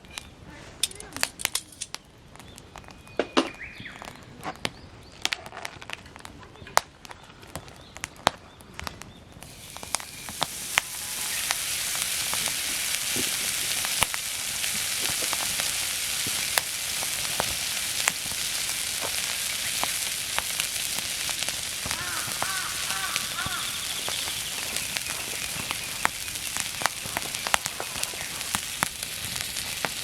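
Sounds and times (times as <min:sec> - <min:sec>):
meat sizzling over a campfire: 0:00.0 - 0:30.0
sharp crackling pops: 0:00.0 - 0:30.0.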